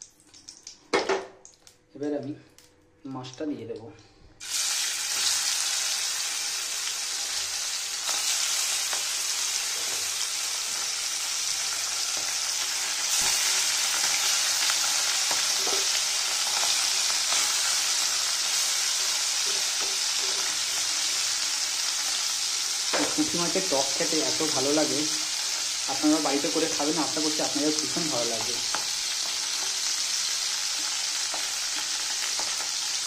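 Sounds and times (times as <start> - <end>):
fish sizzling in hot oil: 4.4 - 33.0.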